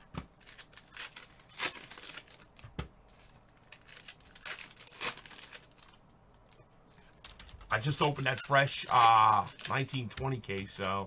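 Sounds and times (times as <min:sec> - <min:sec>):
packaging crinkling and rustling: 0:00.3 - 0:11.0.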